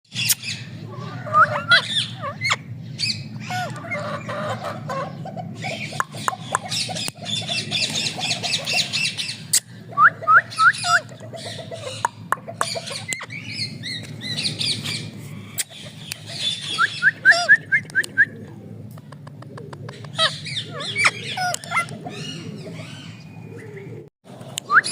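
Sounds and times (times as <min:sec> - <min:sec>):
parrots squawking and chirping: 0:00.1 - 0:17.6, 0:19.9 - 0:23.7.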